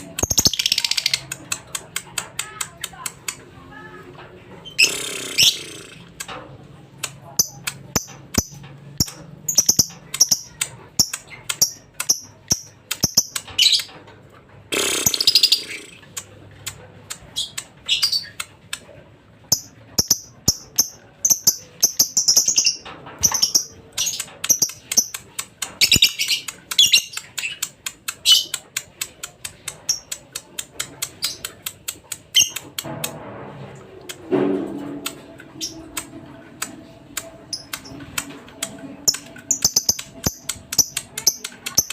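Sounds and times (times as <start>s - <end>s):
bird chirping and chattering: 0.0s - 3.5s, 4.6s - 6.3s, 7.0s - 14.0s, 14.8s - 18.9s, 19.5s - 32.8s, 35.6s - 36.7s, 37.5s - 41.9s.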